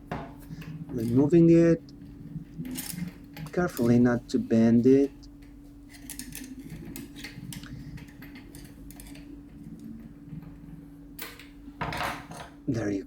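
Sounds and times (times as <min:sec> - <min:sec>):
low hum: 0:00.0 - 0:13.0
metallic clicks and scrapes: 0:00.1 - 0:04.4, 0:05.0 - 0:11.6.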